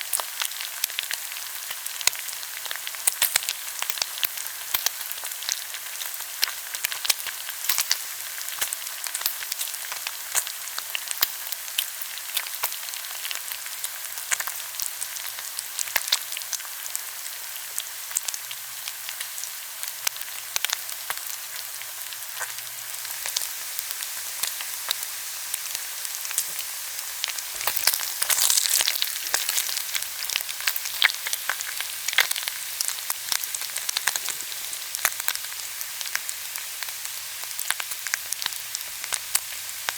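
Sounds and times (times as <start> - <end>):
pork sizzling on a grill: 0.0 - 39.9.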